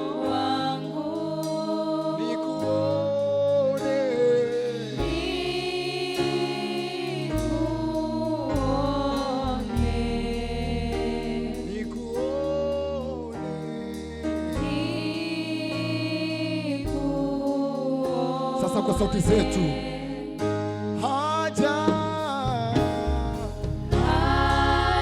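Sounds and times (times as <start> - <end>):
choir singing long held notes: 0.0 - 21.0, 23.3 - 25.0
low instrumental accompaniment: 0.0 - 25.0.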